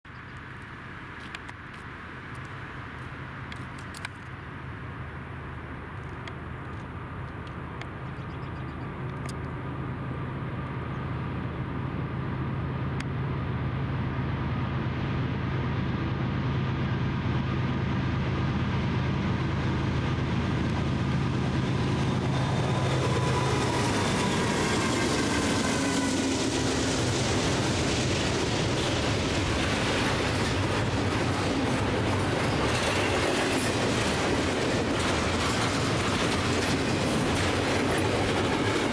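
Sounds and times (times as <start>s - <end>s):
locomotive engine drone: 0.1s - 38.9s
train wheels on rails: 5.6s - 38.9s.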